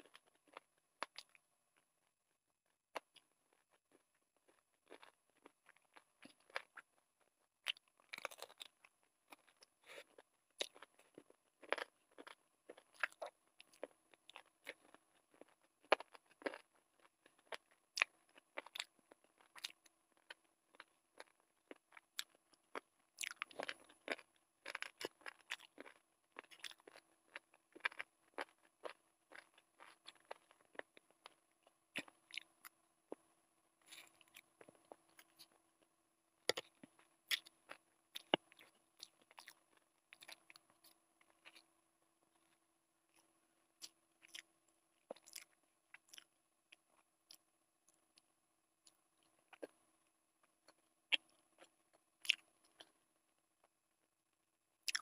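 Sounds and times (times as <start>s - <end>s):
person chewing and crunching: 0.0s - 1.9s, 2.9s - 41.7s, 42.3s - 49.8s, 50.4s - 53.0s
faint steady hum: 0.0s - 55.0s.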